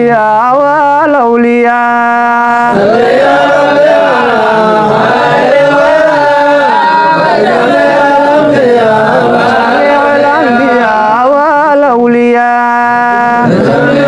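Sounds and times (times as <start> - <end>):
men chanting devotional song: 0.0 - 14.0.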